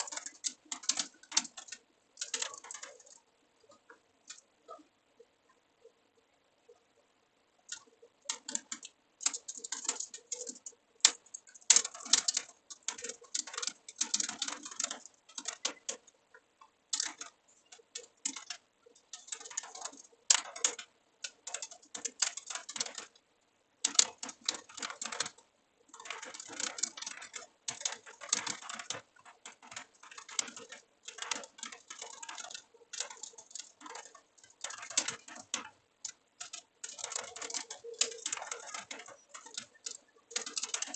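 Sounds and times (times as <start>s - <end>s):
typing on computer keyboard: 0.0s - 4.9s, 7.6s - 40.9s.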